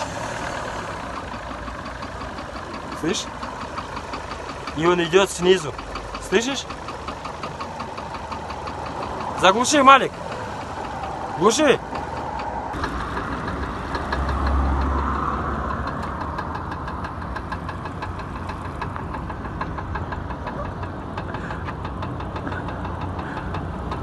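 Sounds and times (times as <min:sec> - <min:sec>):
car engine idling: 0:00.0 - 0:24.0
engine knocking: 0:00.0 - 0:24.0.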